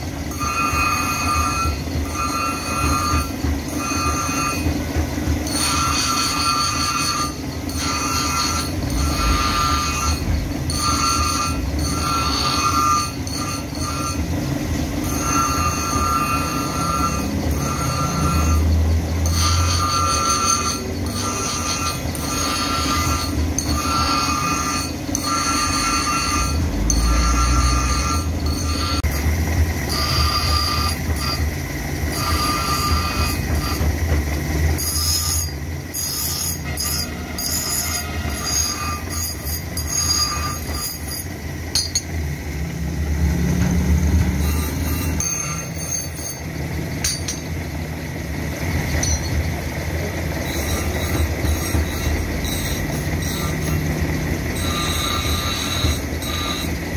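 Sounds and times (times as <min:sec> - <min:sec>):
grinder motor hum: 0:00.0 - 0:56.9
grinding wheel screech on metal: 0:00.0 - 0:56.9.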